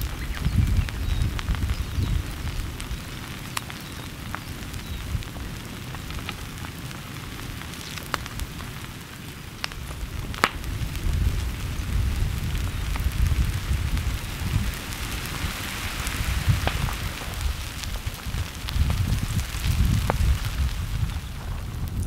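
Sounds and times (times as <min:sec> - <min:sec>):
lava and brush crackling: 0:00.0 - 0:22.0.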